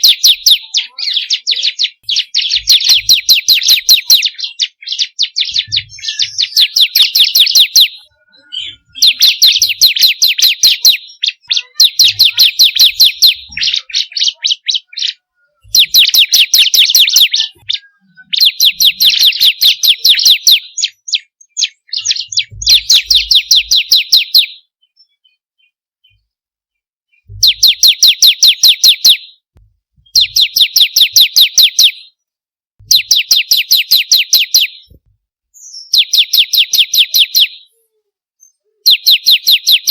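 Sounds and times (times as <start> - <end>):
bird song of rapid sharp notes: 0.0 - 26.4, 27.1 - 39.9.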